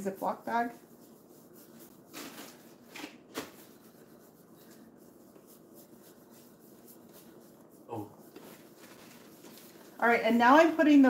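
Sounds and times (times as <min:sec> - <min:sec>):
paintbrush scrubbing wood: 0:00.0 - 0:02.8, 0:03.6 - 0:11.0.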